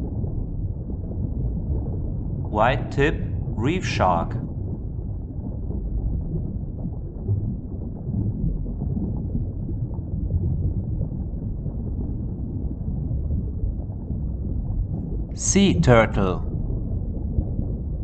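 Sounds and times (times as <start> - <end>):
muffled underwater rumble: 0.0 - 18.0.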